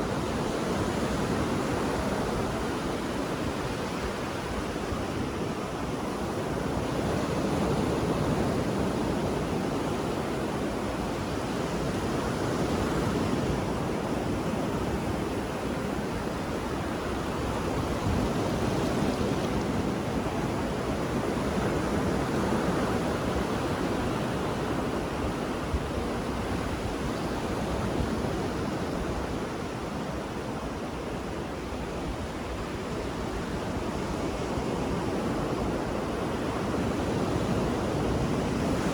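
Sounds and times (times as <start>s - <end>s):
ocean waves on shore: 0.0s - 38.9s.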